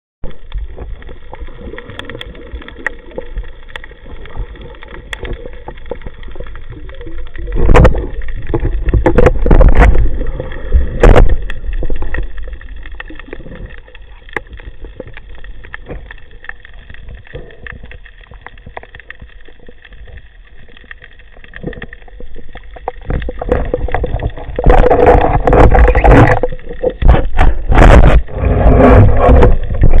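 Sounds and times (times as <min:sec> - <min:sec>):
muffled water sloshing and gurgling: 0:00.2 - 0:30.0.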